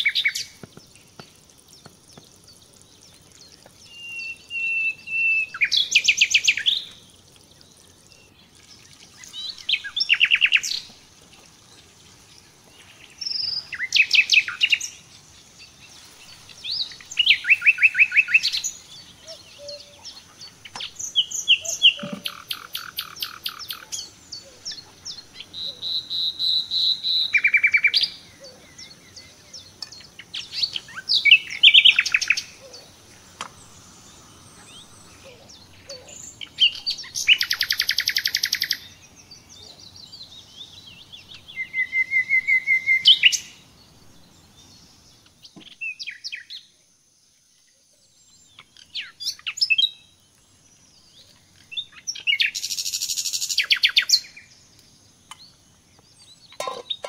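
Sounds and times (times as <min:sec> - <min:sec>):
songbird trills and chirps: 0:00.0 - 0:57.0.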